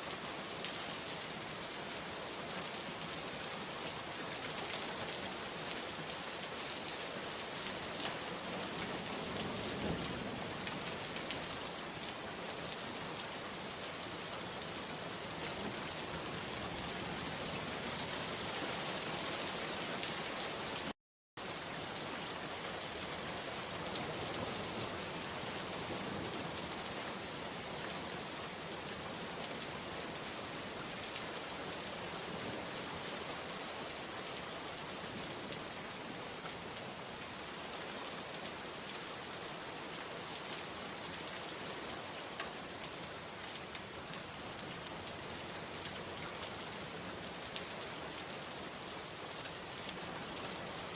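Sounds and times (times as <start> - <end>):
rain pattering: 3.6 - 50.9.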